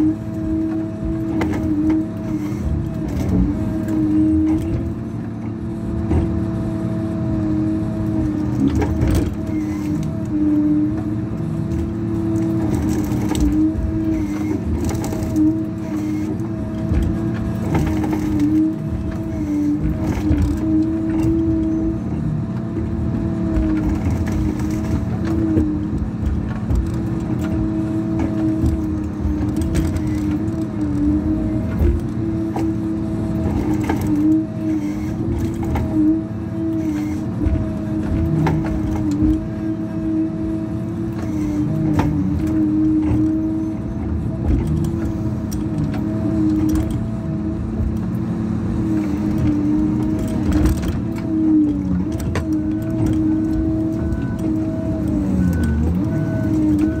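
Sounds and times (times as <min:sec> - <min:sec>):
diesel engine rumbling: 0:00.0 - 0:57.0
hydraulic whine: 0:00.0 - 0:57.0.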